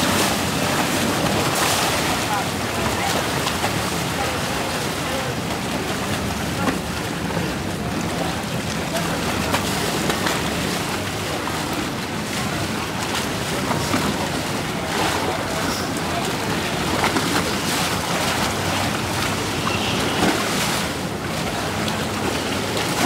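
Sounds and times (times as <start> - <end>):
boat engine humming: 0.0 - 23.0
propeller churning water: 0.0 - 23.0.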